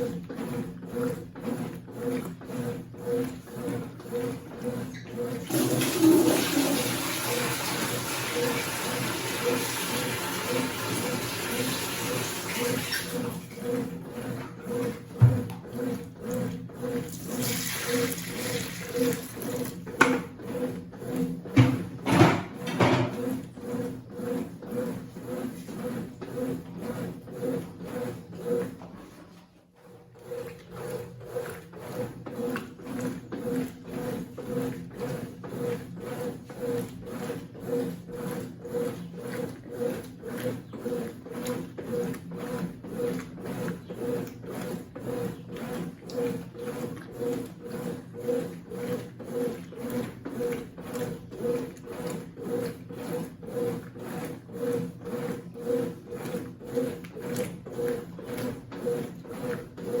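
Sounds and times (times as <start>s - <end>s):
washing machine agitating: 0.0s - 60.0s.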